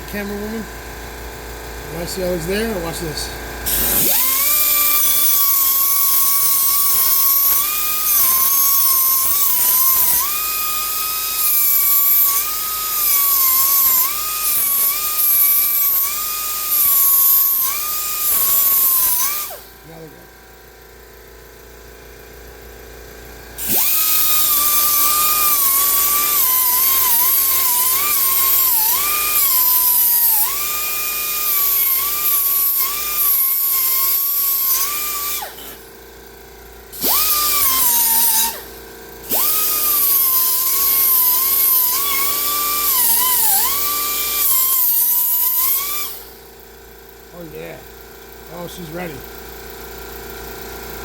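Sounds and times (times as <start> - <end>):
electric grinder grinding metal: 1.9 - 20.1, 23.2 - 47.8.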